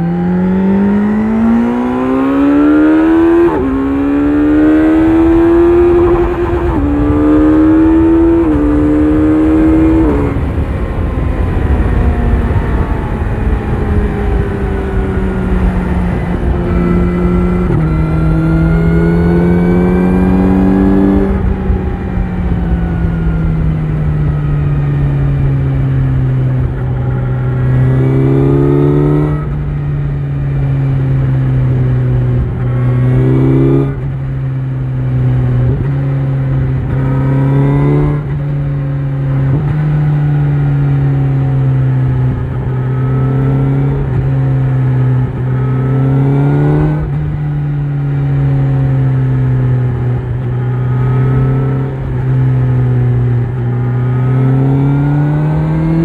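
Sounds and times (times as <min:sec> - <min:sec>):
motorcycle accelerating: 0:00.0 - 0:56.0
wind rumble: 0:00.0 - 0:56.0.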